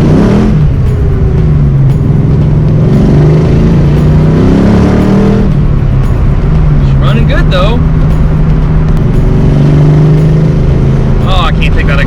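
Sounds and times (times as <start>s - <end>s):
car engine with exhaust leak: 0.0s - 12.0s.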